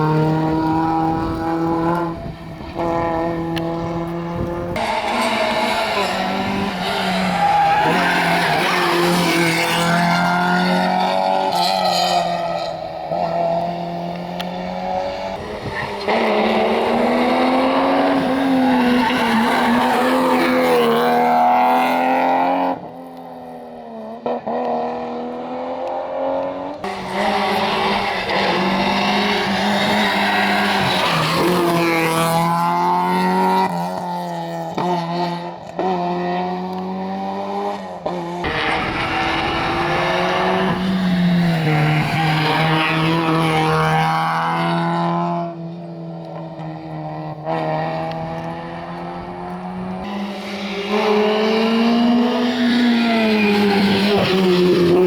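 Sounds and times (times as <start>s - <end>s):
rally car engines at high revs: 0.0s - 55.0s.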